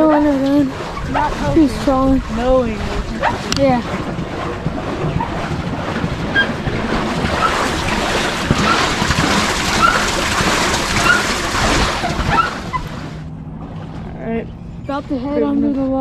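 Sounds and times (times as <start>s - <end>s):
water washing around boat: 0.0s - 16.0s
wind buffeting microphone: 0.0s - 16.0s.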